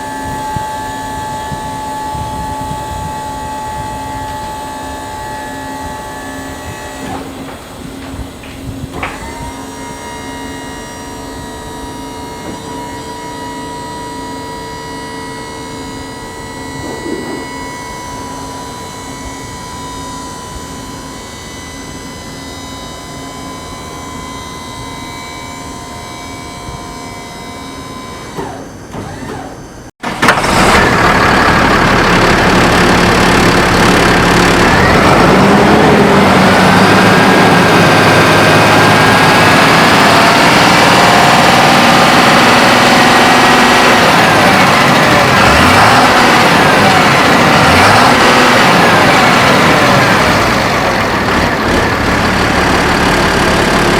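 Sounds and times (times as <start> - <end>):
truck engine humming: 0.0 - 29.2, 30.0 - 53.9
rushing air blower: 0.0 - 53.9.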